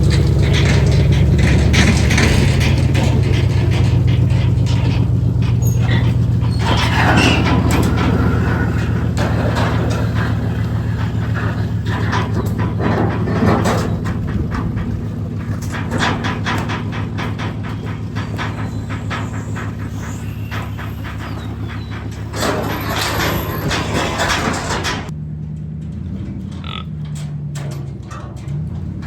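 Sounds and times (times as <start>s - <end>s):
pickup truck engine running: 0.0s - 29.0s
trailer rattling and clanking: 0.0s - 29.0s.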